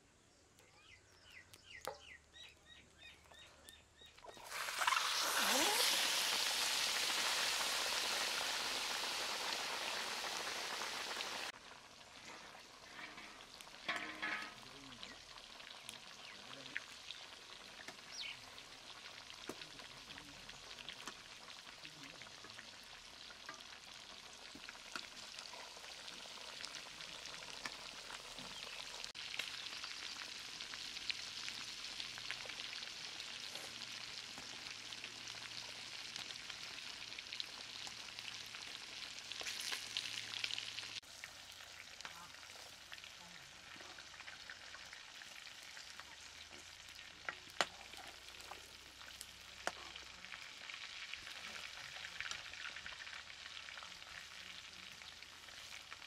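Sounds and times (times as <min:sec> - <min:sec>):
chicken sizzling in hot oil: 0:04.2 - 0:56.0.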